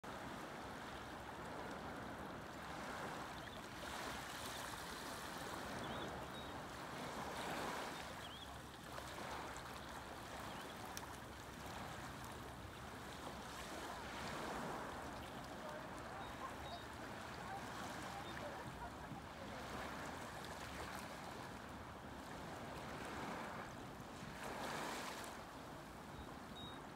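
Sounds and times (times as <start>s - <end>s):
waves lapping on sandy shore: 0.0s - 26.9s.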